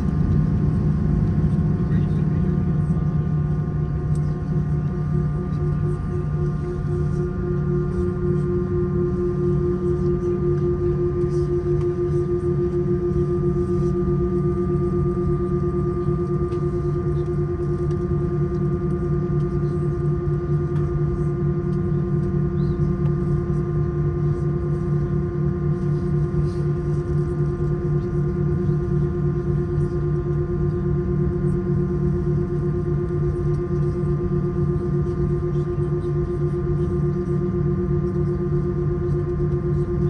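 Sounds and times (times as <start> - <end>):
jet engines idling: 0.0 - 40.0.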